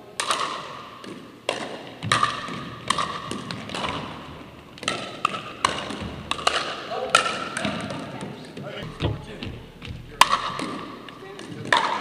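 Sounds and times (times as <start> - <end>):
paddles hitting plastic ball: 0.2 - 12.0
ball bouncing on hardwood floor: 1.0 - 4.1, 4.8 - 12.0.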